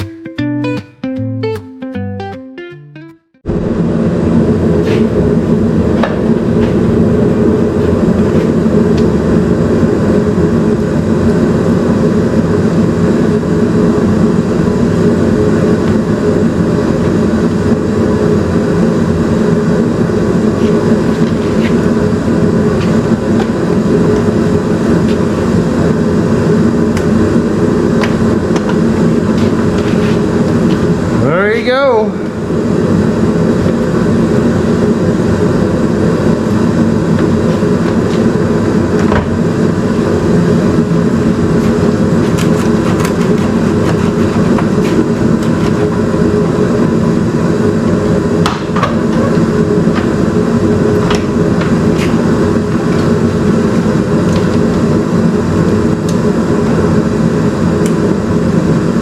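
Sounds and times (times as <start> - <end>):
shop heater running: 3.4 - 59.0.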